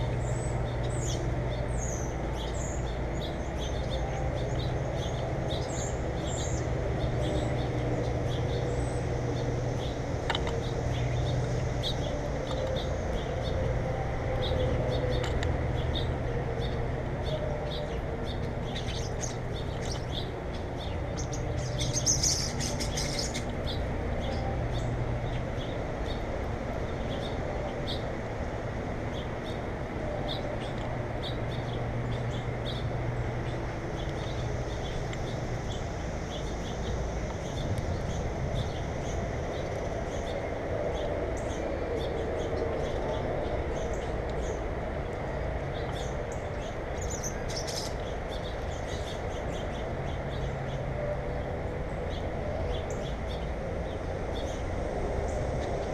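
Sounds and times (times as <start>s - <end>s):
small birds chirping: 0.0s - 55.9s
steady low hum: 0.0s - 55.9s.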